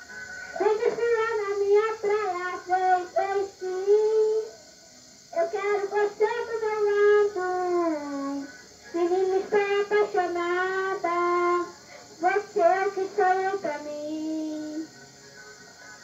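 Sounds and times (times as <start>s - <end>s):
tape hiss: 0.0s - 16.0s
boy singing into microphone: 0.6s - 4.5s, 5.3s - 14.9s.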